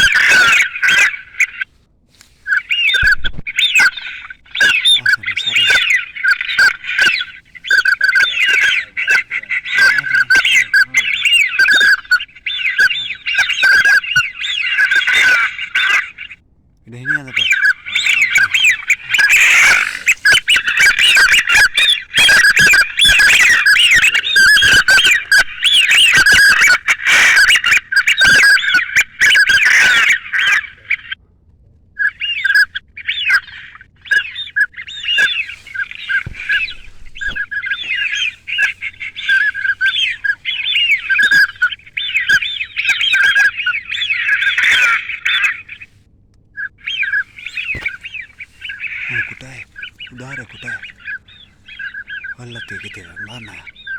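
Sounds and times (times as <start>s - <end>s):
ducks squawking: 0.0s - 31.2s, 32.0s - 46.0s, 46.6s - 53.9s.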